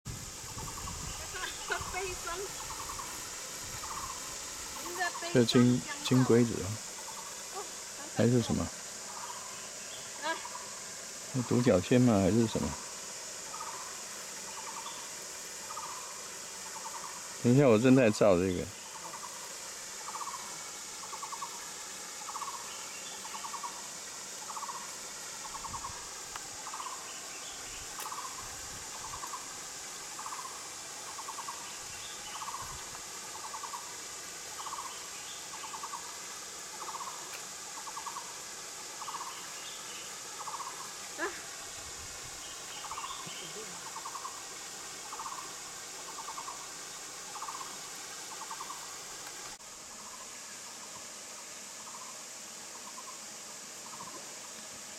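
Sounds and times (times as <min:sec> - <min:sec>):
steady high hiss: 0:00.0 - 0:54.9.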